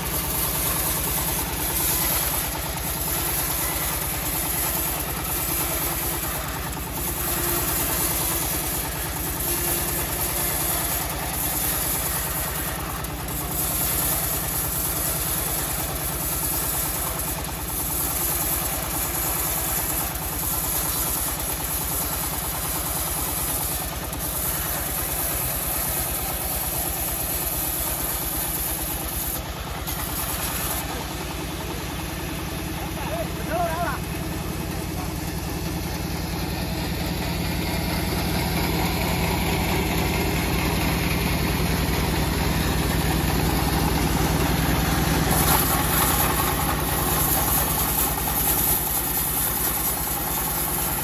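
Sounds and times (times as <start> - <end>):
sawmill engine running: 0.0 - 51.0.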